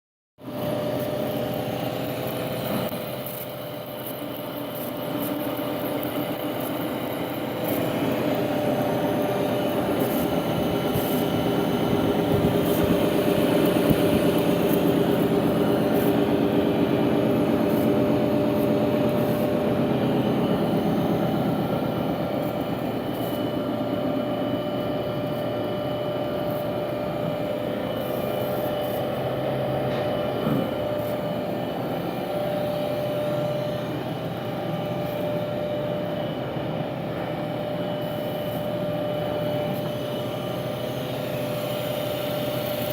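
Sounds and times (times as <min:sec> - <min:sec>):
lathe running with mechanical hum: 0:00.4 - 0:42.9.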